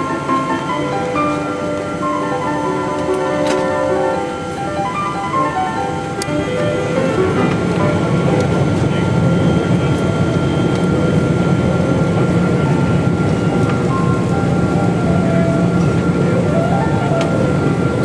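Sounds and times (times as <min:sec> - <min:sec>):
airliner cabin rumble: 0:00.0 - 0:18.0
thin steady whine: 0:00.0 - 0:18.0.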